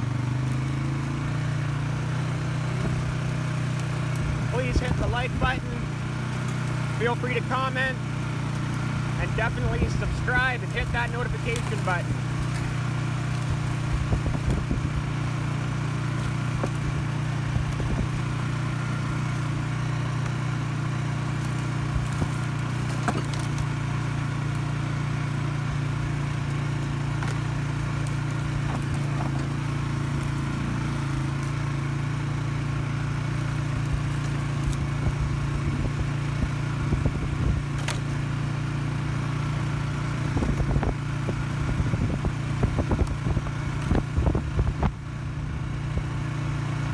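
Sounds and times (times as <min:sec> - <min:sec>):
atv engine running at low speed: 0:00.0 - 0:46.9.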